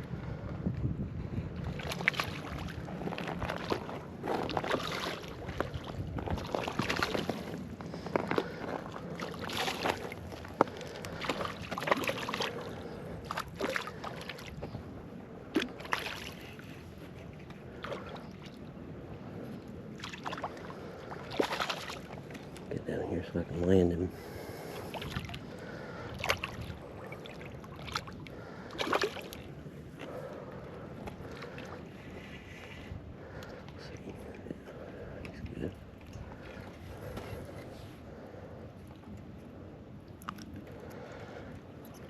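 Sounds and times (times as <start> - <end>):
water sloshing and splashing: 1.2 - 42.0.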